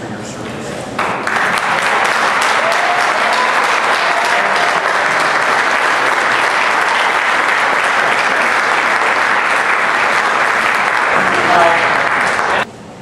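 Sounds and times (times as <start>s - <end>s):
audience applauding: 1.0s - 12.6s.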